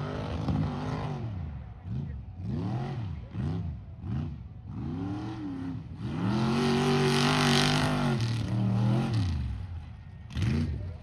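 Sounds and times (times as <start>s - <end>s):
truck engine revving: 0.0s - 9.7s.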